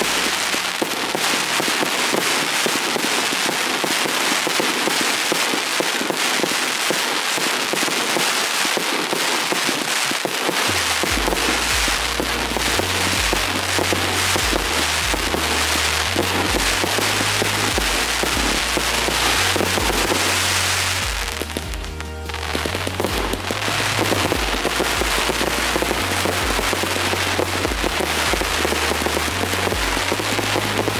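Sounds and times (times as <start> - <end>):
music with deep bass: 0.0 - 5.1, 10.4 - 30.9
fireworks popping and crackling: 0.0 - 30.9.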